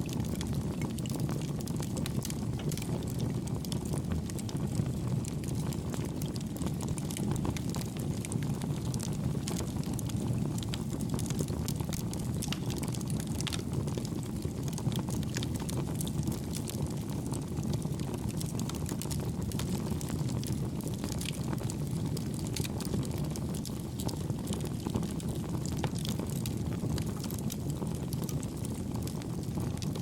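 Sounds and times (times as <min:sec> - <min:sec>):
campfire flames rumbling: 0:00.0 - 0:30.0
fire crackling: 0:00.0 - 0:30.0.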